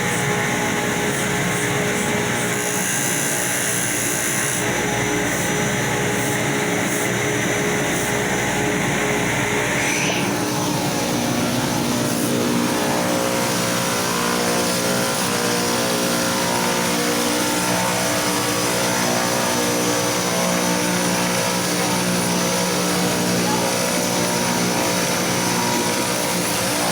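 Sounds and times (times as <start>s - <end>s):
electric power sander running: 0.0s - 26.9s.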